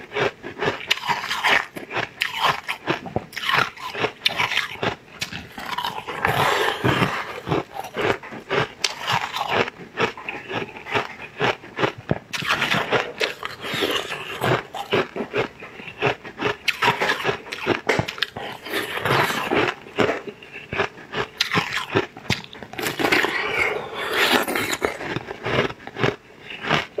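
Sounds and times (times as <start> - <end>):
person chewing wet jelly: 0.0 - 27.0
mouth clicks and smacks: 0.8 - 27.0.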